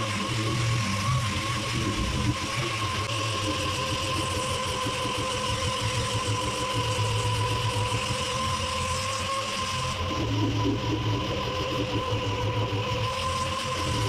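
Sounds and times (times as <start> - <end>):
sander whining and hissing: 0.0 - 14.0.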